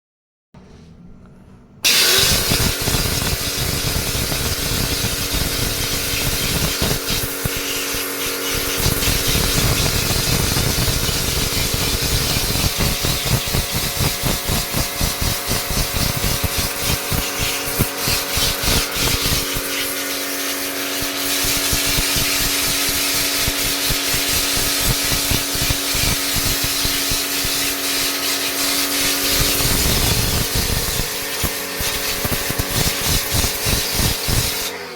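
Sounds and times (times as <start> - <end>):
loud even hiss: 1.8 - 34.7.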